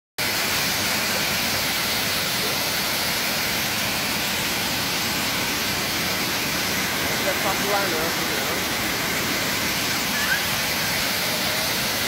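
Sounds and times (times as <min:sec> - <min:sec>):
waterfall pouring: 0:00.2 - 0:12.0.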